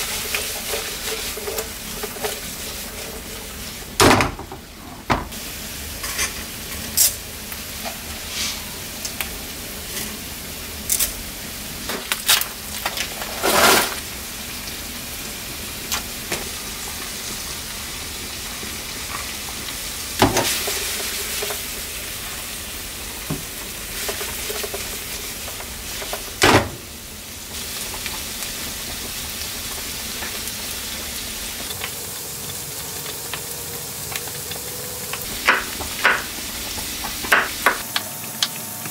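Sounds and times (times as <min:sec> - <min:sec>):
onions sizzling in a pan: 0:00.0 - 0:38.9.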